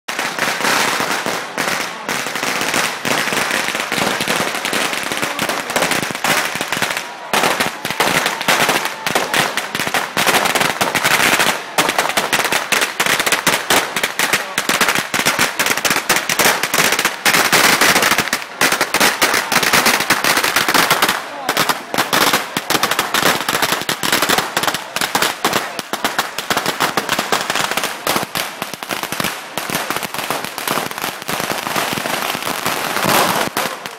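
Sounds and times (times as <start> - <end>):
firecrackers going off: 0.1 - 33.9
crowd voices: 0.2 - 33.9.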